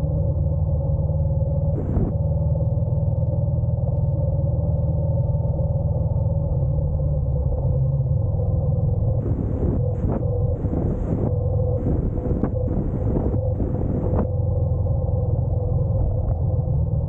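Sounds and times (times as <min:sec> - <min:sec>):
motorcycle engine running: 0:00.2 - 0:07.3, 0:08.8 - 0:17.0.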